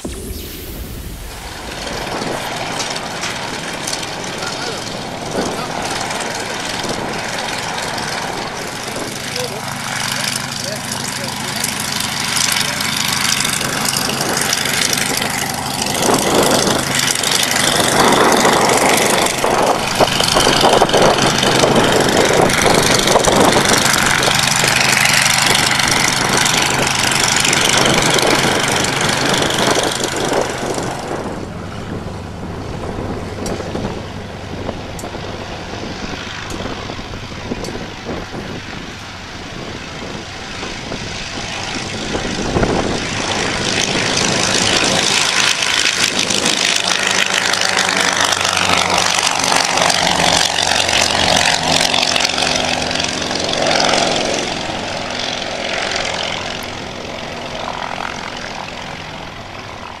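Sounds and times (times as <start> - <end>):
aircraft radial engines roaring: 0.0 - 60.0.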